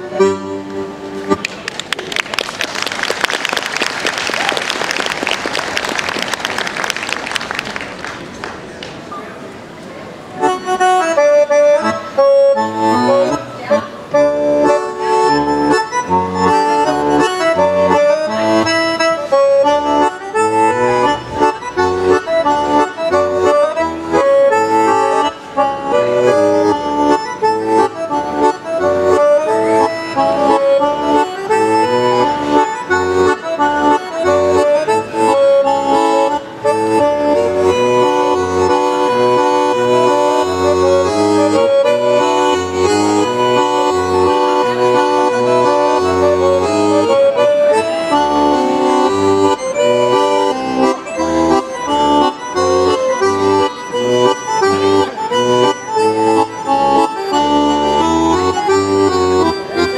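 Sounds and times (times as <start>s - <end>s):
lively folk dance music: 0.0s - 9.1s, 10.1s - 59.9s.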